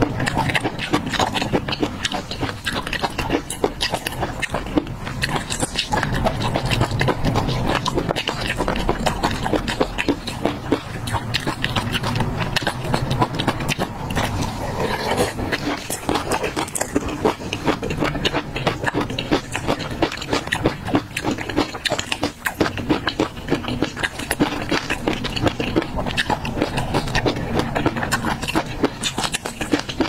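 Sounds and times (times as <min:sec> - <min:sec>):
crunchy chewing: 0:00.0 - 0:30.0
wet mouth sounds: 0:00.0 - 0:30.0.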